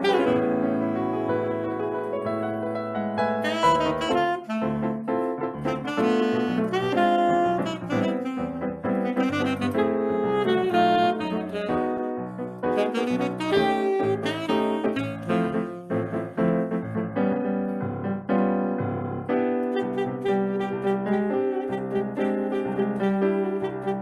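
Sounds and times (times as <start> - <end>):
saxophone melody: 0.0 - 16.7, 19.3 - 24.0
piano accompaniment: 0.0 - 24.0.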